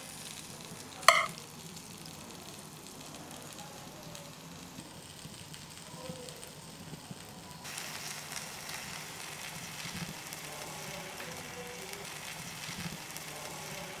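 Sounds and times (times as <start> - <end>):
food sizzling: 0.0 - 14.0.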